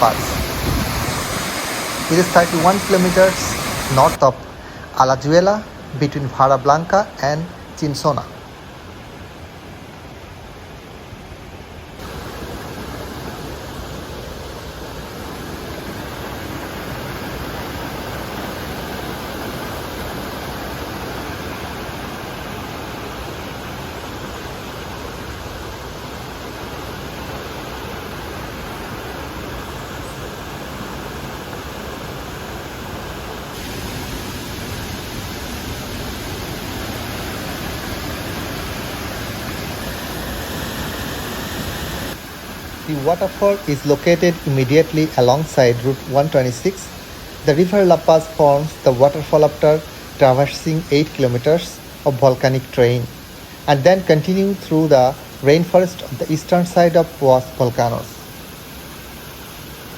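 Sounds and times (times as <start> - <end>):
waterfall rushing: 0.0 - 9.7, 12.0 - 59.9.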